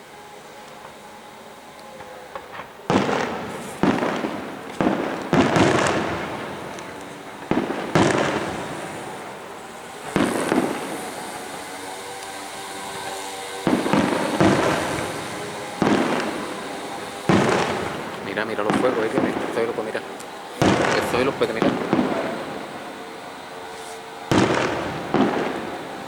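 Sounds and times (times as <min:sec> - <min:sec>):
fireworks bursting with echoes: 0:00.0 - 0:26.0.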